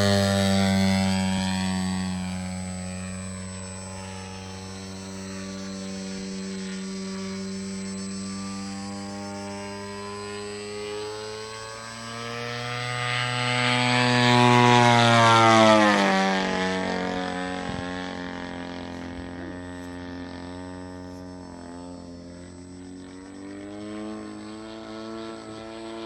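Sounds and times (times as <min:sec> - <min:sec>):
model airplane engine flying past: 0:00.0 - 0:26.0.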